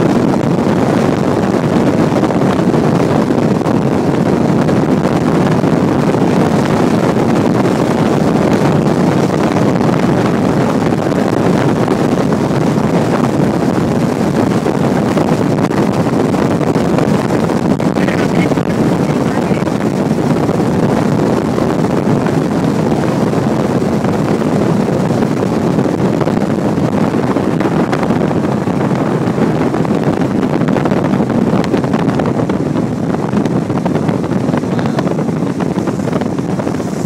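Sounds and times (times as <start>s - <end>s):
motorboat engine running: 0.0s - 37.0s
wind on microphone: 0.0s - 37.0s.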